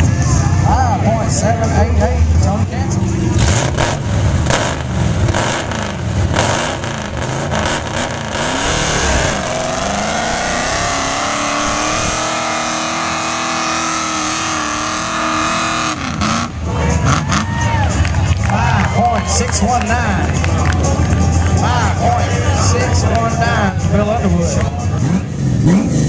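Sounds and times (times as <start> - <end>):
truck engine revving: 2.2 - 26.0.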